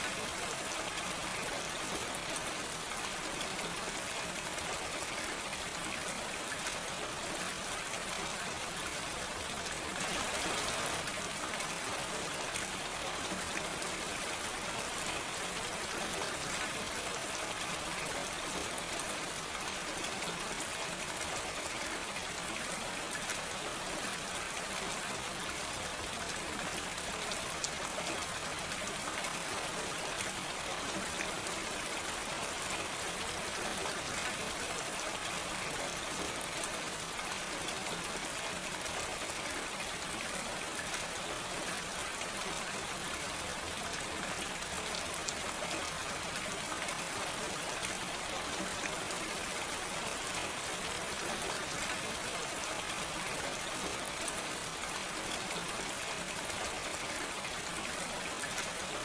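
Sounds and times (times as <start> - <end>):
gentle rain: 0.0 - 59.0.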